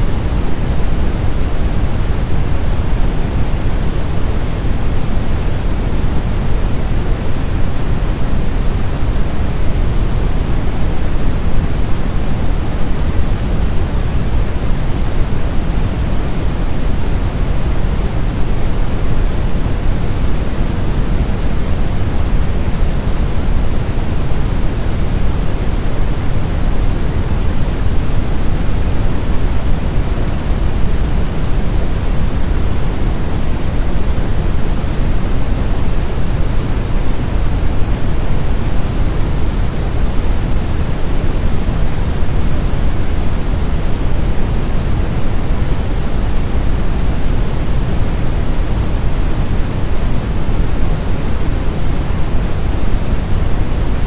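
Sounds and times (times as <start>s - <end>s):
brown noise rumble: 0.0s - 54.0s.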